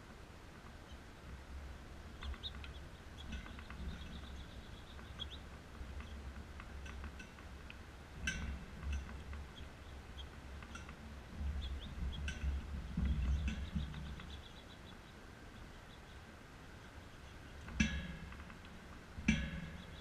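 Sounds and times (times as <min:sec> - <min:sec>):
songbirds chirping: 0:00.0 - 0:20.0
steady low rumble: 0:00.0 - 0:20.0.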